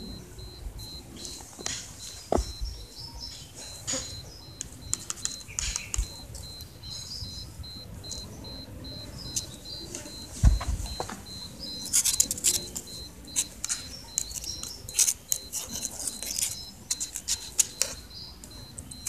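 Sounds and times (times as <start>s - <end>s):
high pulsing chirping: 0.0s - 19.0s.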